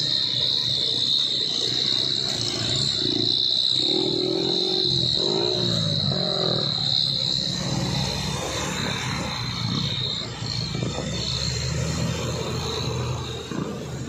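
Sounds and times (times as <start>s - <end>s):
diesel truck engine labouring: 0.0s - 14.0s.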